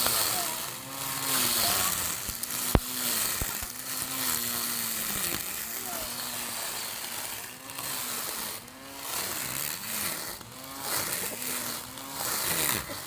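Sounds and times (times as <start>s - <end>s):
lawn mower motor running: 0.0s - 13.0s.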